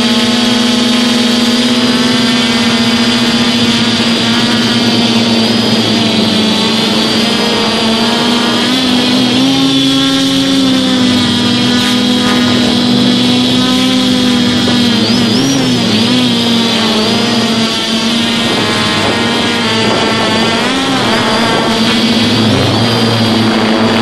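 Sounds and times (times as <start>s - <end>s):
quadcopter motors humming: 0.0s - 24.0s.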